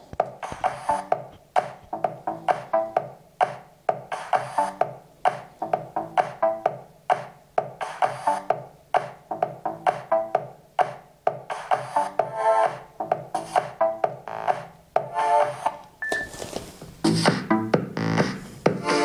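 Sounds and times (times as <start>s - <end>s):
muffled electronic music: 0.0s - 16.0s, 17.0s - 19.0s.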